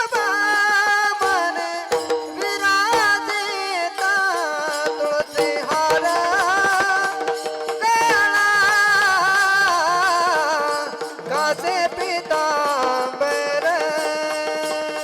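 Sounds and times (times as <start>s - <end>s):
hand drum percussion: 0.0s - 15.0s
person singing devotional melody: 0.0s - 15.0s.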